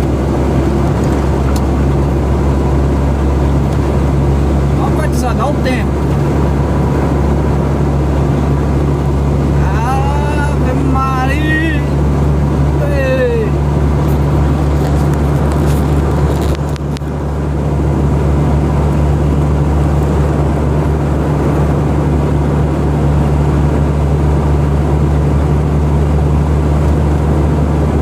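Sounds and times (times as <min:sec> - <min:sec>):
road noise: 0:00.0 - 0:28.0
vehicle engine drone: 0:00.0 - 0:28.0.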